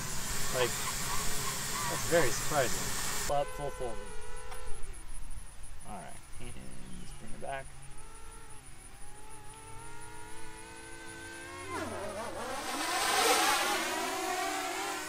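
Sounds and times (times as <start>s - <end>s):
drone propeller whine: 0.0s - 5.8s, 6.6s - 15.0s.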